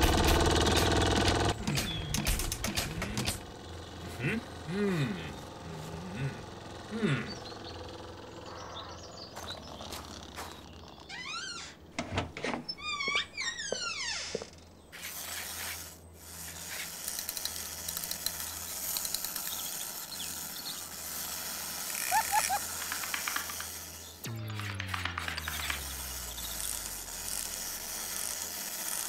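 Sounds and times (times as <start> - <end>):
clockwork mechanism whirring and clicking: 0.0 - 11.1, 15.0 - 29.0.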